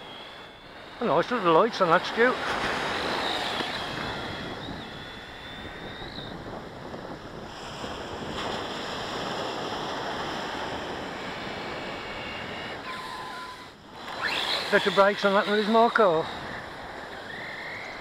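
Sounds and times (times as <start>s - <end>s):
thin high steady whine: 0.0s - 18.0s
wind on microphone: 0.0s - 18.0s.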